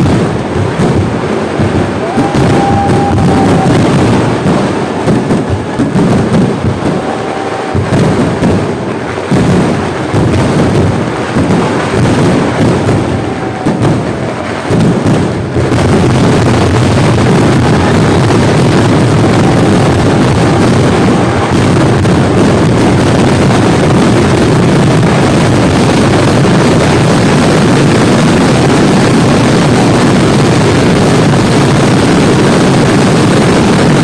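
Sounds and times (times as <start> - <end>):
firework explosions: 0.0 - 34.0.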